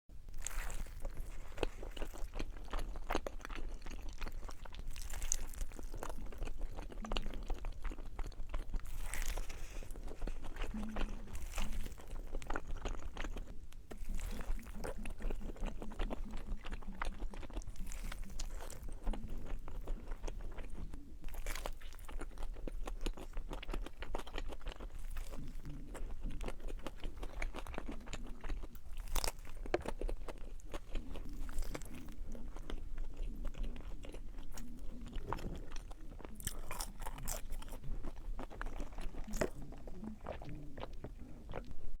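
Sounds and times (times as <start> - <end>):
chewing and crunching food: 0.1 - 42.0.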